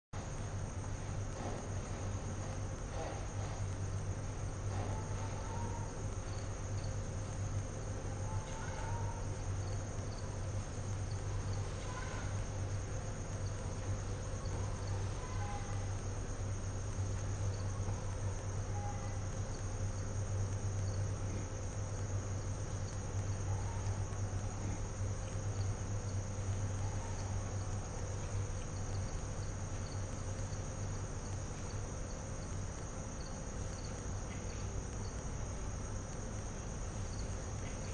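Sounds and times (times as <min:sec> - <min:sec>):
electrical hum and hiss: 0:00.2 - 0:37.9.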